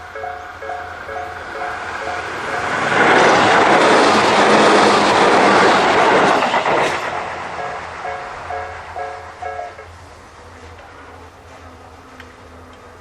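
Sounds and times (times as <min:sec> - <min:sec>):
crossing warning bells: 0:00.0 - 0:13.0
train passing: 0:00.0 - 0:13.0.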